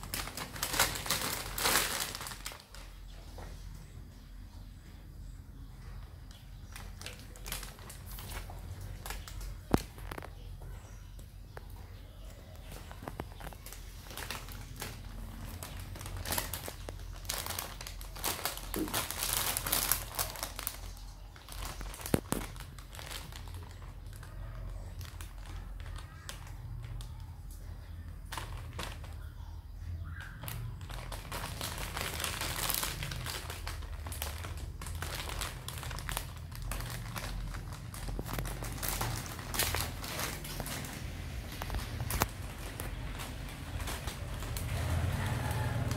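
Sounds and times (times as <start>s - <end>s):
plastic bag crinkling: 0.0s - 3.4s, 5.9s - 45.9s.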